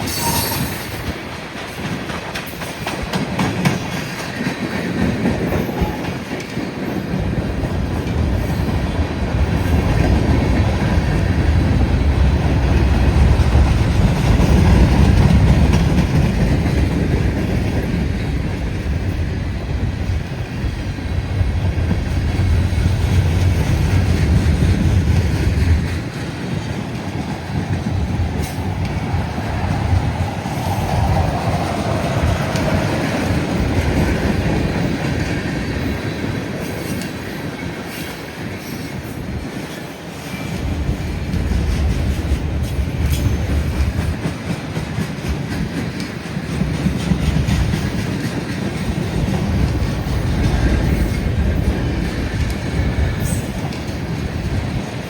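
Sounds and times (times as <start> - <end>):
train wheels clicking over rail joints: 0.0 - 55.0
wind buffeting microphone: 0.0 - 55.0.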